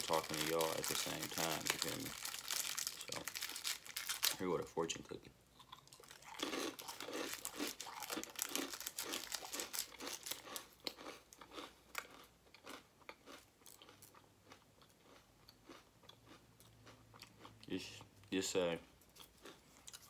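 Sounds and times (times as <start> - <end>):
cookie being crunched and chewed: 0.0 - 4.4, 5.6 - 17.5.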